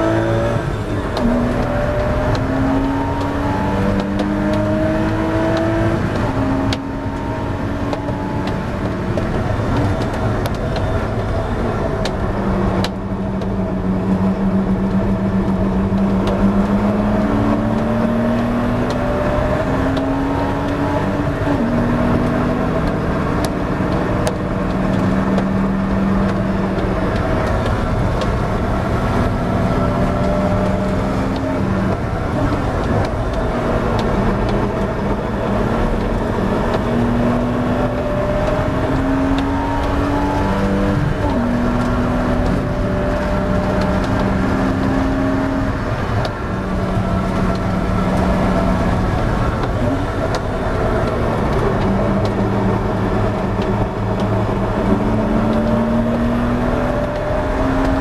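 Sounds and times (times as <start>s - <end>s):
race engine accelerating hard: 0.0s - 58.0s.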